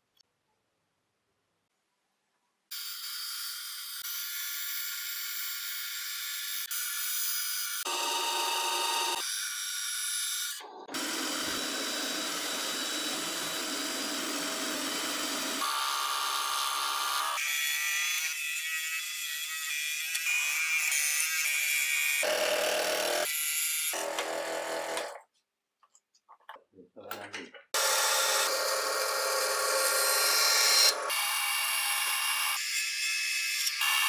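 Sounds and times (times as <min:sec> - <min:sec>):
scroll saw cutting wood: 0:02.8 - 0:25.2, 0:27.8 - 0:34.0.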